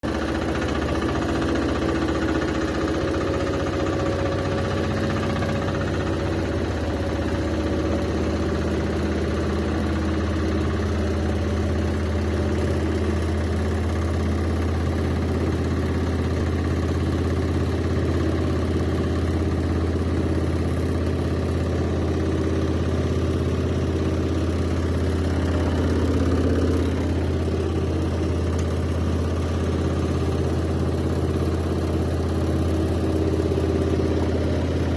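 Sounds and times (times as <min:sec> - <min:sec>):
washing machine running: 0:00.0 - 0:34.9.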